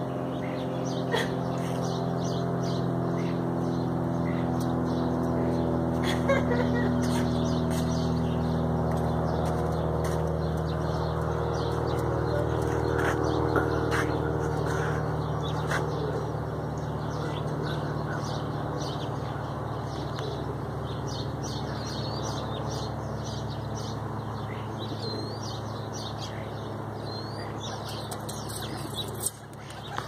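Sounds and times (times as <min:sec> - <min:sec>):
low mechanical hum: 0:00.0 - 0:30.0
small birds chirping: 0:00.0 - 0:30.0.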